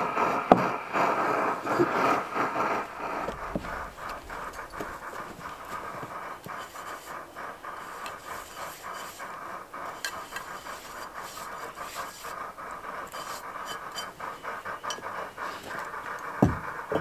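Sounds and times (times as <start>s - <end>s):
stove burning with hiss: 0.0s - 17.0s.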